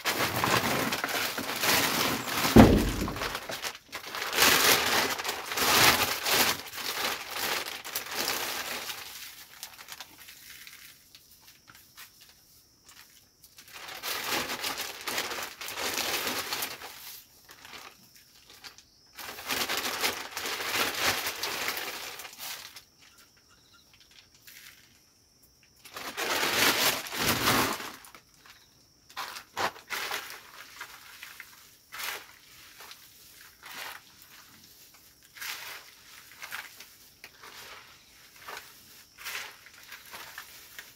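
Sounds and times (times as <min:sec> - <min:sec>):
plastic bag crinkling: 0:00.0 - 0:11.1, 0:13.6 - 0:22.9, 0:25.8 - 0:28.5, 0:29.2 - 0:34.7, 0:35.3 - 0:40.9
greens crackling when turned by hand: 0:00.0 - 0:24.9, 0:29.2 - 0:40.9.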